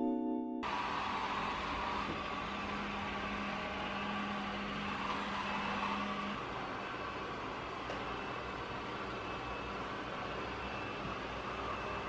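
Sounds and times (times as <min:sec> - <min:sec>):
robot vacuum whirring: 0:00.6 - 0:12.0.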